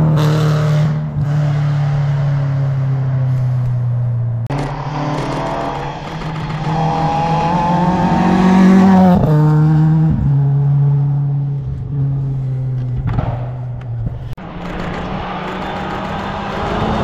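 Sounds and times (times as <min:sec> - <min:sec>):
rally car engine accelerating: 0:00.0 - 0:13.3, 0:14.0 - 0:17.0.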